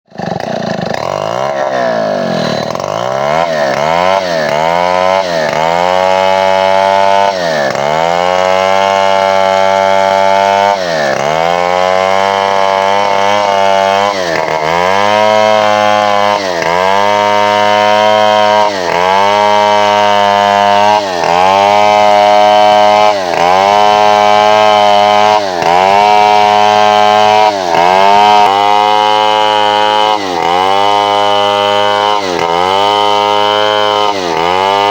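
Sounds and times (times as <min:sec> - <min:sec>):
two-stroke chainsaw revving: 0:00.1 - 0:34.9.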